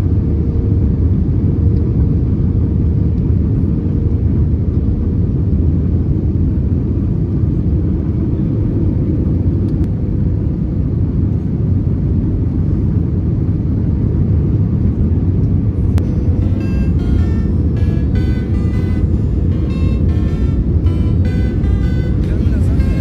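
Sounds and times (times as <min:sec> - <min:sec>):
airliner cabin engine rumble: 0:00.0 - 0:23.0
faint constant hum: 0:00.0 - 0:23.0.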